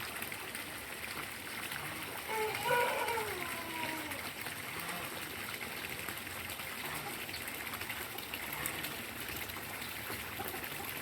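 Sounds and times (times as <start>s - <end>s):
running water gushing and trickling: 0.0s - 11.0s.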